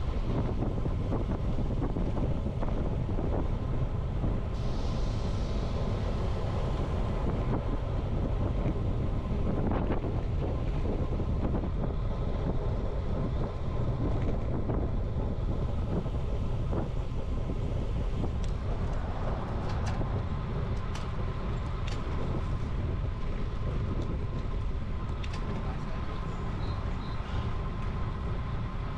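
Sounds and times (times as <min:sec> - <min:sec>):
wind noise on microphone: 0:00.0 - 0:28.9.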